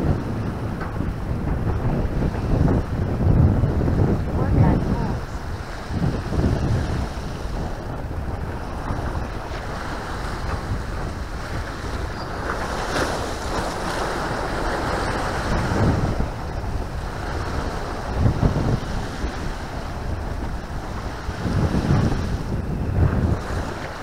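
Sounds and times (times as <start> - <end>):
waves splashing: 0.0 - 24.0
wind buffeting microphone: 0.0 - 24.0.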